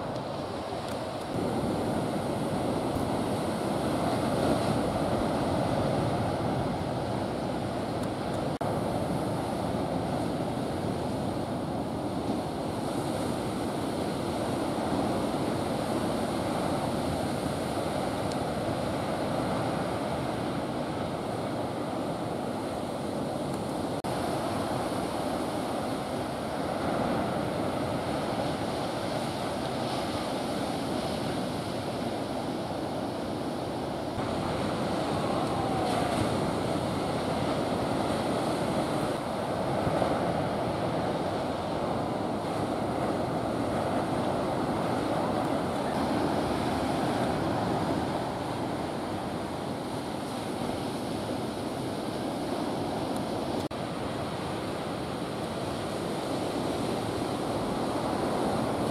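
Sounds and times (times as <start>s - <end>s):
ocean surf breaking: 0.0s - 58.9s.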